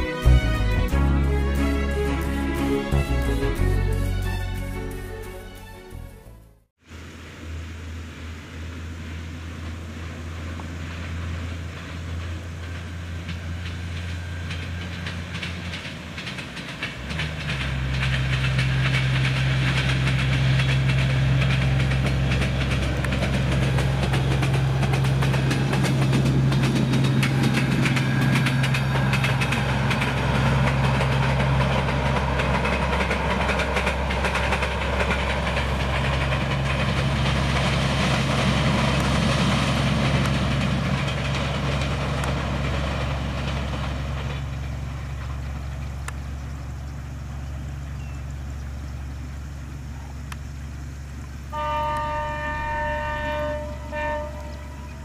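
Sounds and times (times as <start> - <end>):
diesel locomotive engine drone: 0.0 - 55.0
wheels clacking over rail joints: 9.5 - 55.0.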